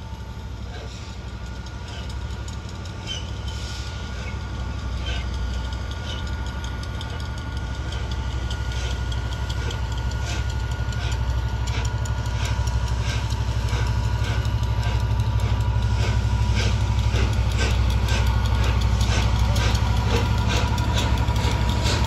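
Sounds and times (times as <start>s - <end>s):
diesel locomotive engine drone: 0.0s - 22.0s
steam locomotive exhaust beats: 0.0s - 22.0s.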